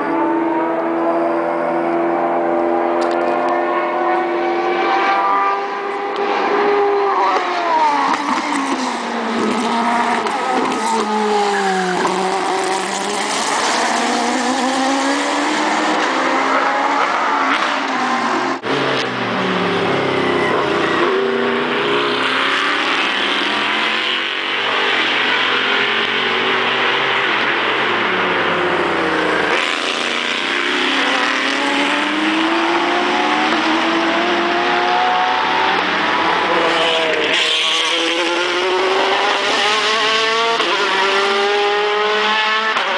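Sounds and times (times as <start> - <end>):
racing car engines revving: 0.0 - 42.9.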